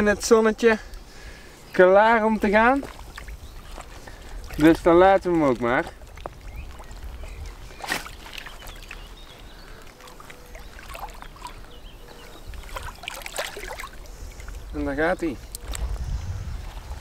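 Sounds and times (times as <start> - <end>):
water sloshing and splashing: 2.1 - 17.0.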